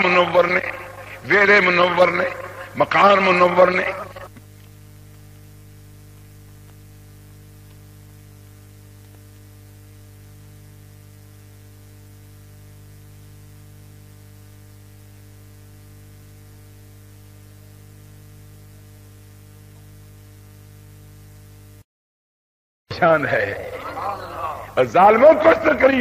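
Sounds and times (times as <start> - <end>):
electrical mains hum: 0.0 - 21.8, 22.9 - 26.0.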